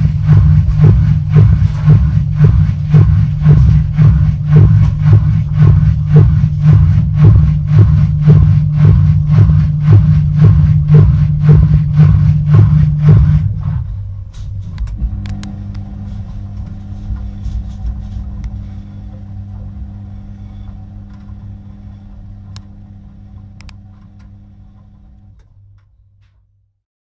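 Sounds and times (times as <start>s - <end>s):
washing machine running: 0.0s - 26.3s.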